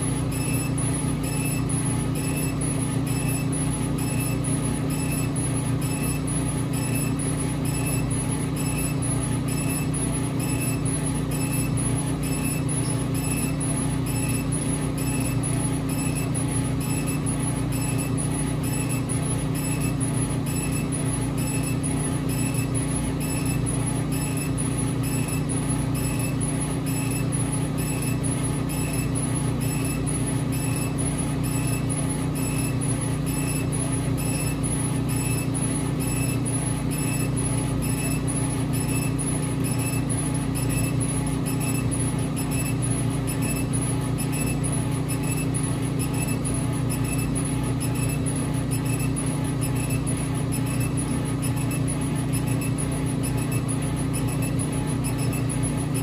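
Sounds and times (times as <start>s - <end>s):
laser cutter hum: 0.0s - 56.0s.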